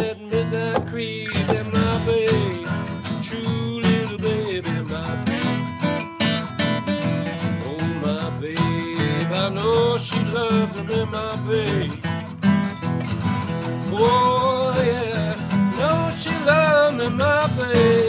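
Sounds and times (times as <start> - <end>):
acoustic guitar strumming: 0.0 - 18.0
guitar lead melody: 0.0 - 18.0.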